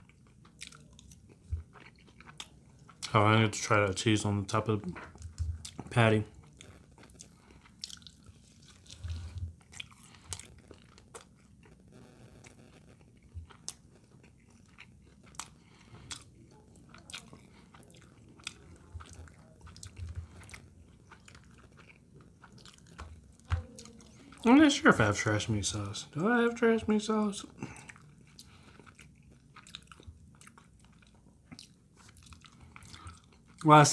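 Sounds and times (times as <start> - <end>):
person chewing food: 0.0 - 3.2, 4.7 - 24.8, 27.2 - 33.7.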